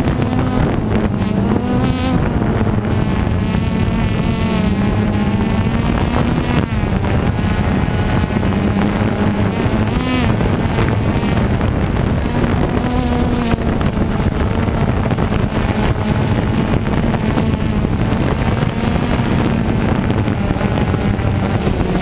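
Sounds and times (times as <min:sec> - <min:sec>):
drone propellers buzzing: 0:00.0 - 0:22.0
wind buffeting microphone: 0:00.0 - 0:22.0.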